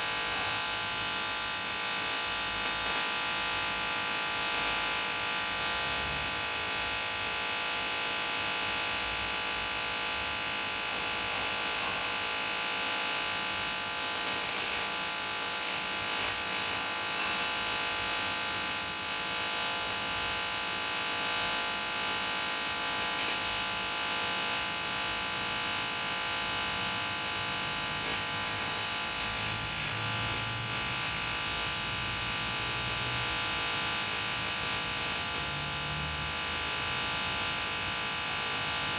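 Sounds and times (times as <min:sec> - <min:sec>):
welding arc buzz and hiss: 0:00.0 - 0:38.9.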